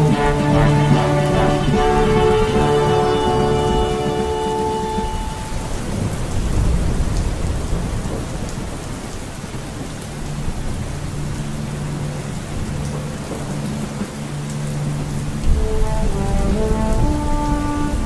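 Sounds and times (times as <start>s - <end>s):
heavy rain: 0.0s - 18.0s
thunder rumbling: 0.0s - 18.0s.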